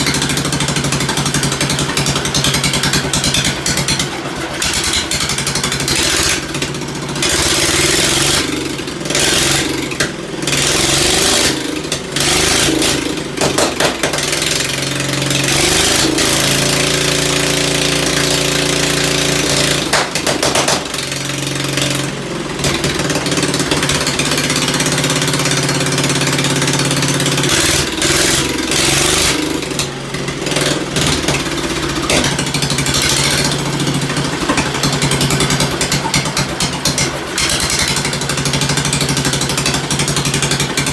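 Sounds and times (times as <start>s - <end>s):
engine popping: 0.0s - 40.9s
tractor engine running: 0.0s - 40.9s.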